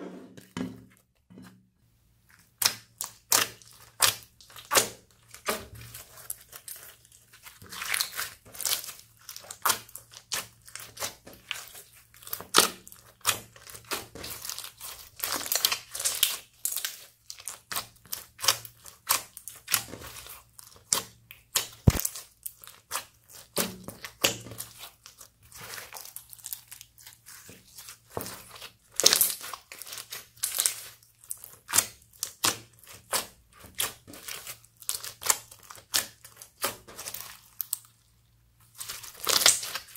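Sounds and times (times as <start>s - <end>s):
slime crackling and popping: 2.6s - 39.9s.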